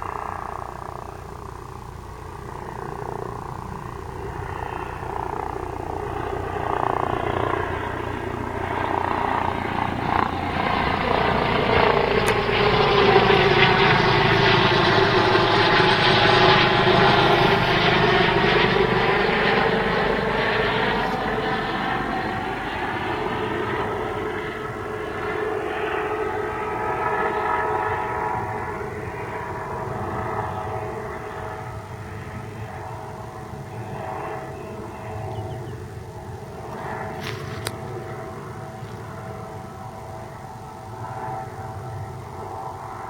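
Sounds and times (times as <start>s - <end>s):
helicopter flying: 0.0s - 43.0s.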